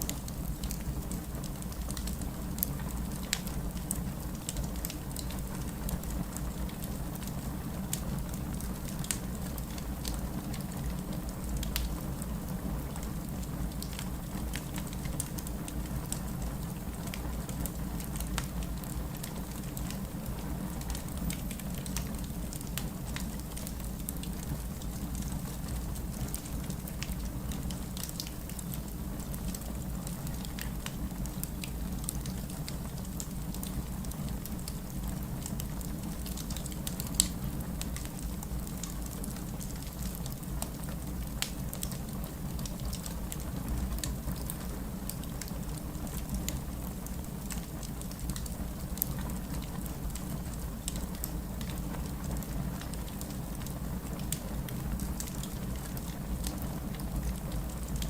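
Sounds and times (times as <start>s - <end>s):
fireplace crackling: 0.0s - 58.0s.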